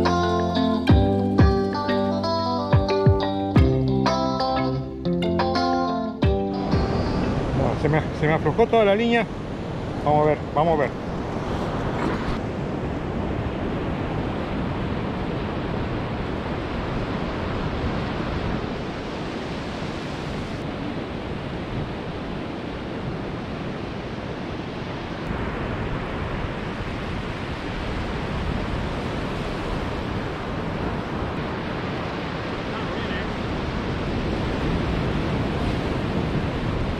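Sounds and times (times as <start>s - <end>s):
surf breaking on beach: 6.6s - 36.9s
wind buffeting microphone: 6.6s - 36.9s.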